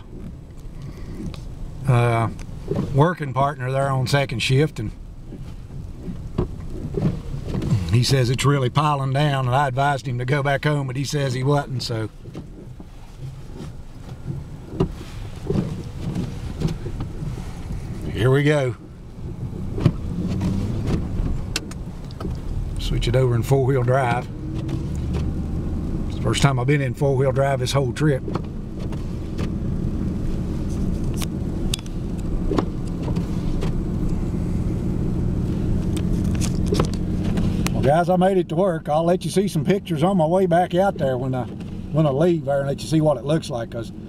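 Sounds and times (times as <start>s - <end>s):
truck engine and tyres rumbling: 0.0s - 44.0s.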